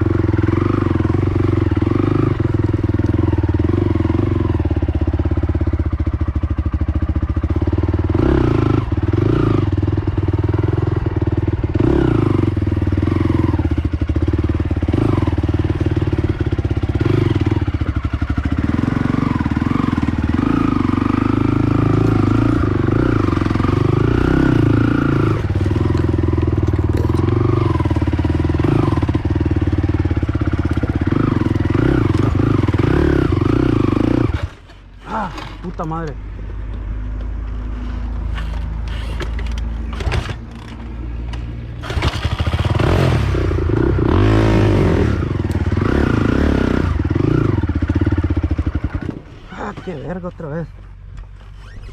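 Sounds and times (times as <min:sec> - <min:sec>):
quad engine revving: 0:00.0 - 0:36.2, 0:38.3 - 0:41.0, 0:41.7 - 0:50.7.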